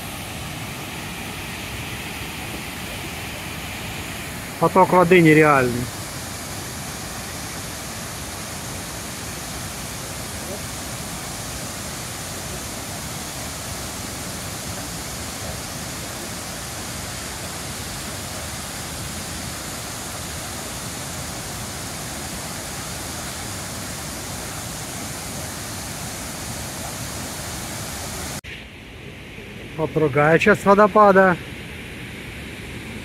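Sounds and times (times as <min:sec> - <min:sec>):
waterfall rushing: 0:00.0 - 0:28.4.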